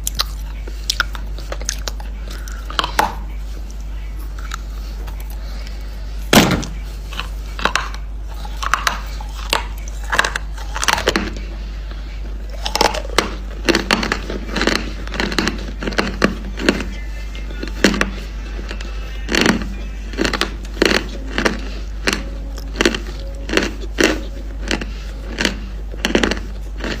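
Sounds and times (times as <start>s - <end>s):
crunching of hard lumps chewed: 0.0s - 27.0s
low hum: 0.0s - 27.0s.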